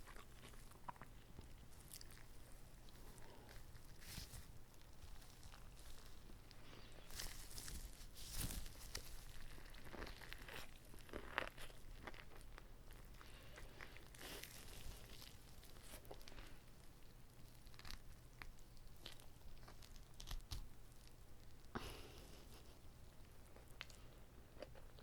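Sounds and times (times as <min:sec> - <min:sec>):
biting and chewing food: 0:00.0 - 0:25.0.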